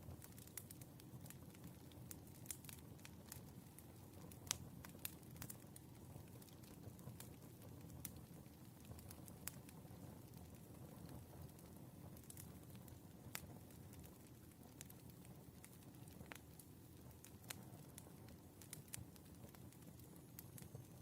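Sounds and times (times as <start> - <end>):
low steady fire rumble: 0.0 - 21.0
wood fire crackling: 0.0 - 21.0.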